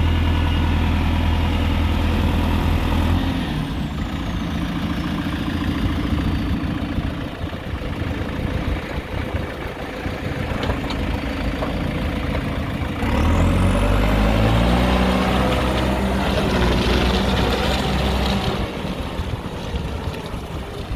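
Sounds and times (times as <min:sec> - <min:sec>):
diesel engine idling and revving: 0:00.0 - 0:20.9.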